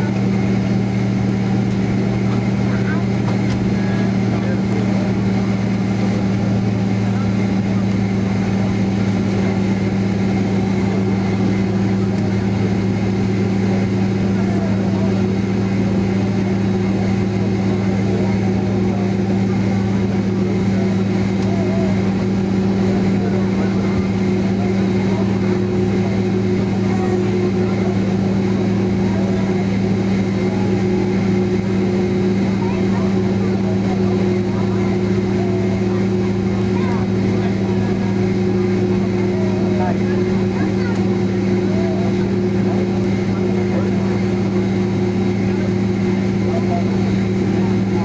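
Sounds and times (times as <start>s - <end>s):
airplane cabin hum: 0.0s - 48.0s.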